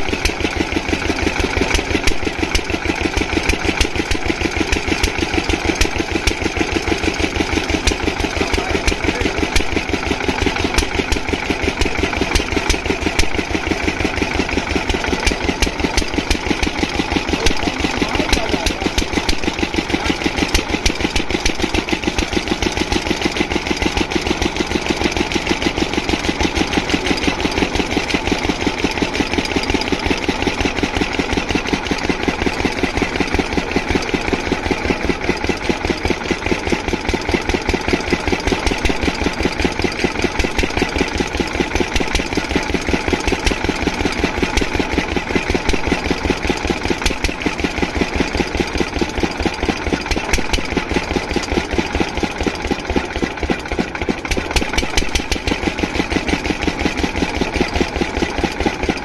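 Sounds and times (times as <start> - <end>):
diesel pump engine running: 0.0 - 59.0.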